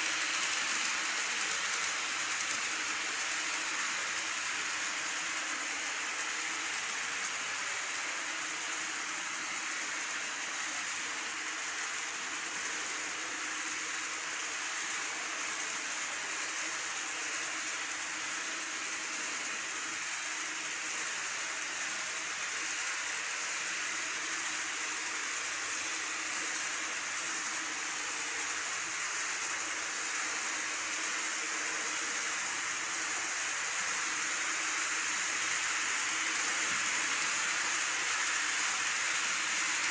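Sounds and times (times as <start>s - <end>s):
model train rushing on track: 0.0s - 39.9s.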